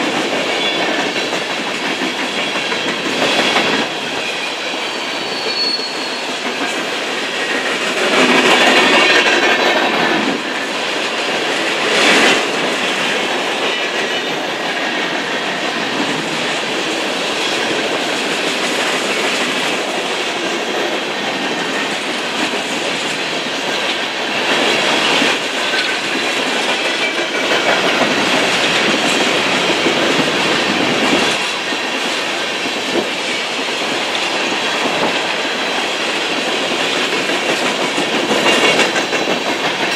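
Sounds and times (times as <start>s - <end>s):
train car clack: 0.0s - 39.9s
train wheels clattering over rail joints: 0.0s - 39.9s.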